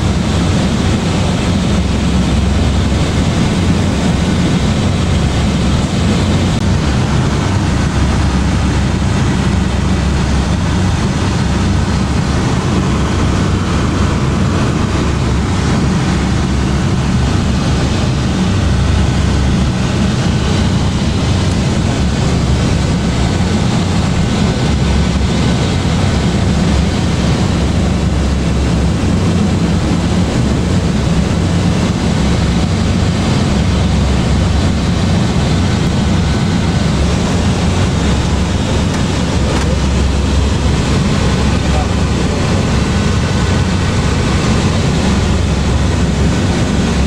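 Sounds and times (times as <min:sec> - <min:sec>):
turboprop engines droning: 0:00.0 - 0:47.0.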